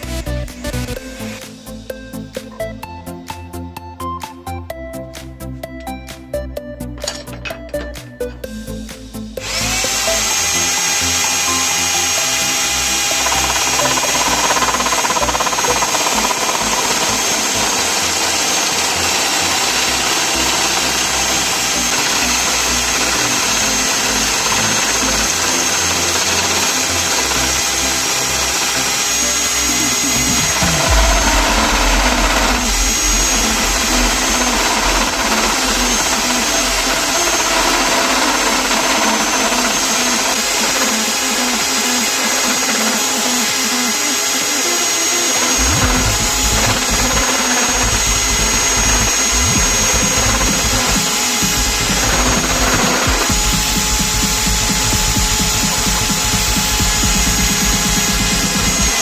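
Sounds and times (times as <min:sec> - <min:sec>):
wood lathe motor whine: 0:09.2 - 0:59.0.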